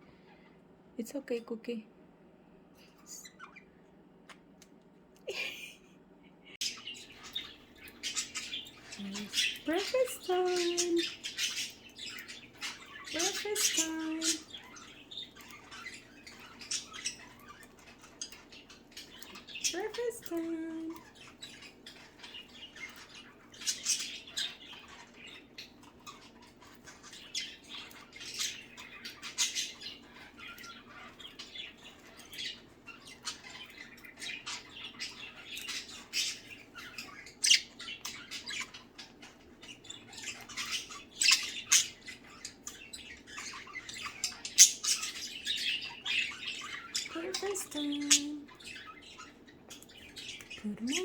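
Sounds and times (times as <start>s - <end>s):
budgerigars chattering: 6.6s - 51.0s.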